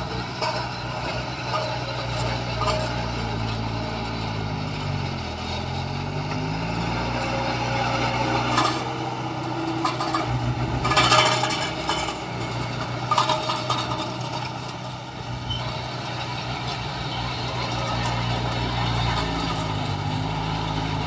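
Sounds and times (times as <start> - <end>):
heavy machinery engine running: 0.0 - 21.0
metallic clanking and scraping: 0.0 - 21.0.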